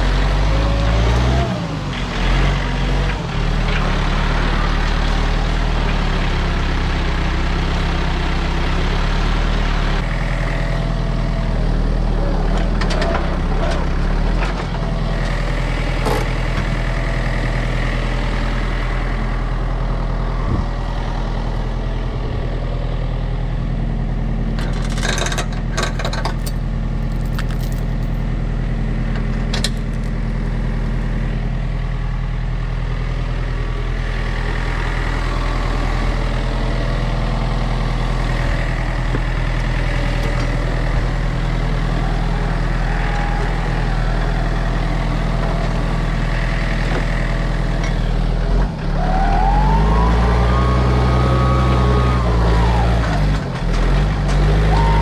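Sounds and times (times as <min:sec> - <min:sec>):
heavy engine running: 0:00.0 - 0:55.0.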